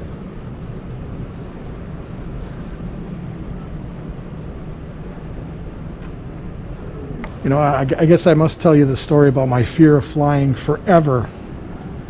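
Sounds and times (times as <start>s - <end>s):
faint hum: 0.0s - 12.0s
room noise rumble: 0.0s - 12.0s.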